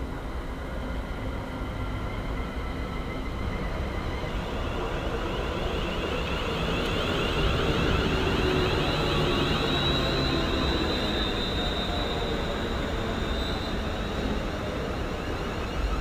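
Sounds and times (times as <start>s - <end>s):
high train whine: 0.0s - 16.0s
train rumble: 0.0s - 16.0s.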